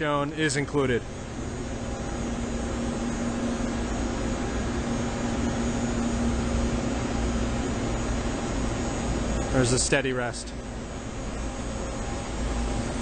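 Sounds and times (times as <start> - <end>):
constant droning tone: 0.0 - 13.0
machinery hum: 0.0 - 13.0.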